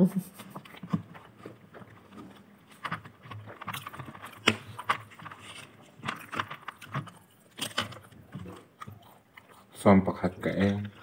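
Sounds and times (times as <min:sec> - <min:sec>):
crispy fried chicken being chewed: 0:00.4 - 0:11.0.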